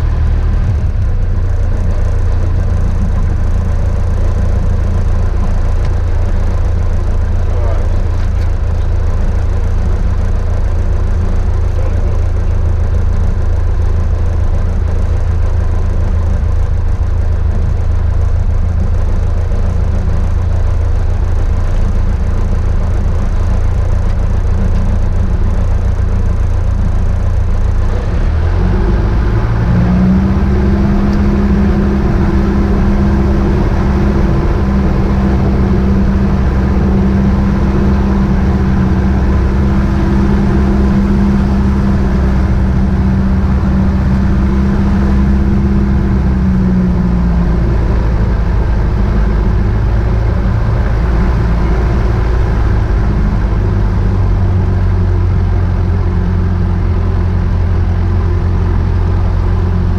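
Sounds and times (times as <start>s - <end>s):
airplane engine and propeller: 0.0s - 59.9s.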